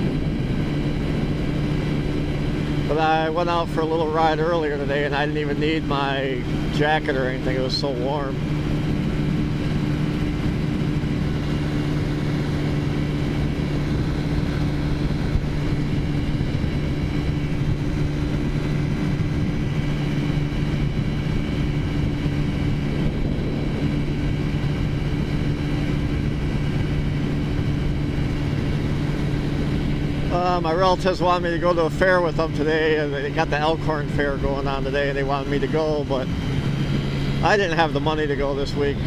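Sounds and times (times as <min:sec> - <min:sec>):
scooter engine cruising: 0:00.0 - 0:39.0
wind noise on microphone: 0:00.0 - 0:39.0.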